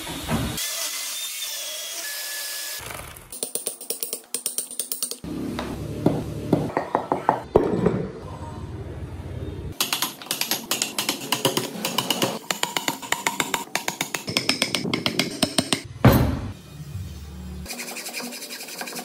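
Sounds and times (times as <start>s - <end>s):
workshop noise: 2.8s - 9.0s, 9.6s - 19.0s.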